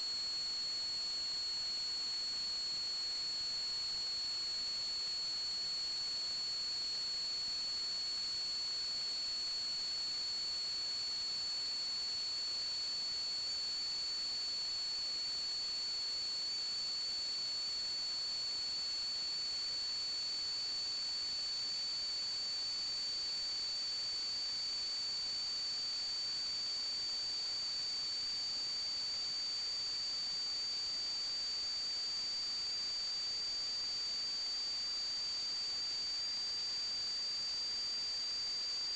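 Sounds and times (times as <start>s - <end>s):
steady high-pitched whine: 0.0s - 38.9s.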